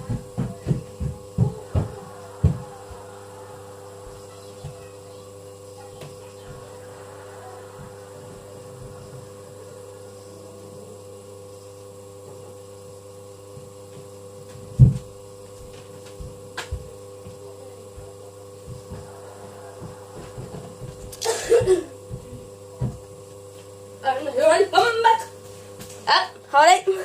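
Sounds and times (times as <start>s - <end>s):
electrical hum: 0.0s - 27.0s.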